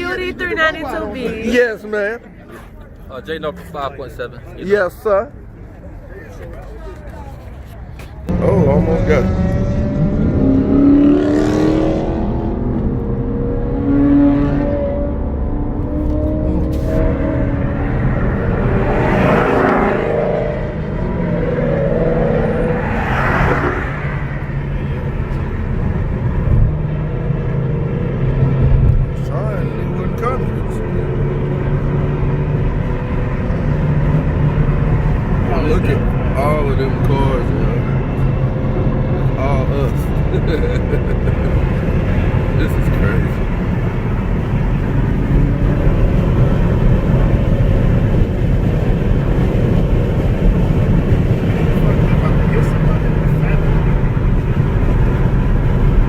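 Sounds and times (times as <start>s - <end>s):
car engines rumbling: 0.0s - 56.0s.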